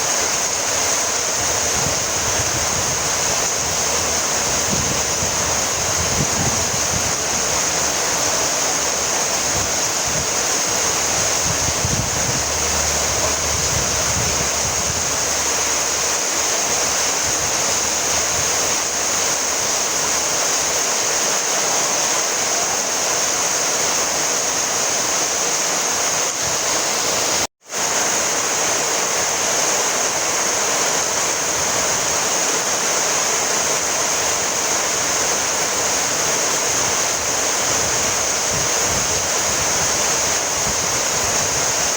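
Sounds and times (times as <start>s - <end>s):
dense rainfall hiss: 0.0s - 41.9s.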